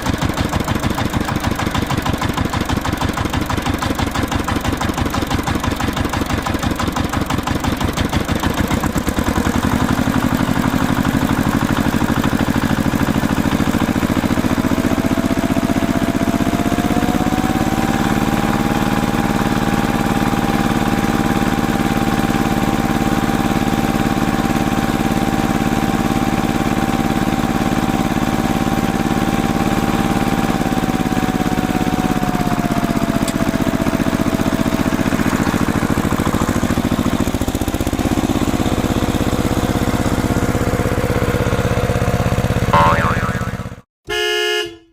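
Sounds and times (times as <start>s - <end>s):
engine chugging: 0.0s - 43.8s.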